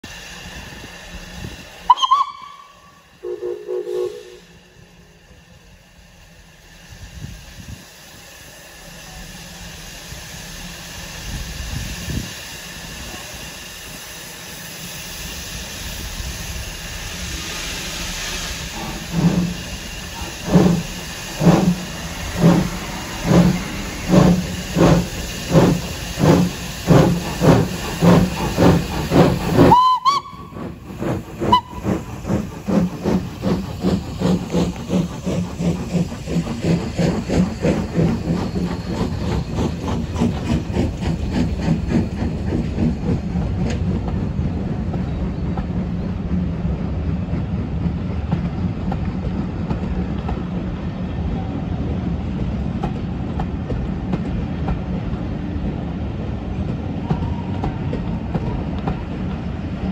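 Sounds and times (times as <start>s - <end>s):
steam hissing: 0.0s - 49.4s
steam locomotive exhaust chuffs: 0.0s - 59.9s.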